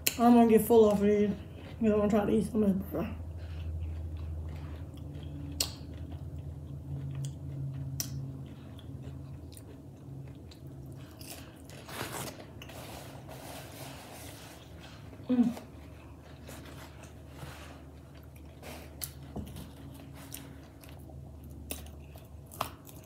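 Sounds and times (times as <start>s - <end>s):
chewing crispy food: 0.0s - 23.0s.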